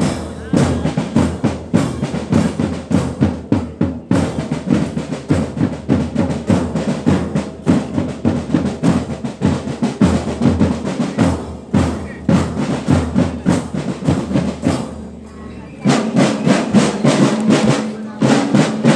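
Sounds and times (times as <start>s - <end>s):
marching drum line: 0.0s - 18.9s.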